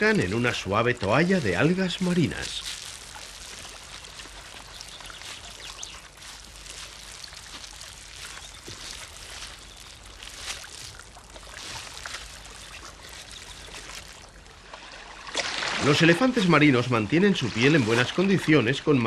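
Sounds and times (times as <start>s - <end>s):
small crackling splashes: 0.0s - 19.0s
water trickling among rocks: 0.0s - 19.0s.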